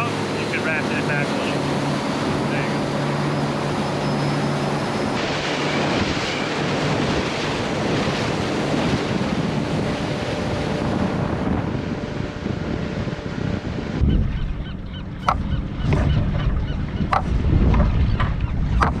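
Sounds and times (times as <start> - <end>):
rushing water: 0.0 - 15.5
boat motor drone: 0.0 - 19.0
wind buffeting microphone: 0.0 - 19.0.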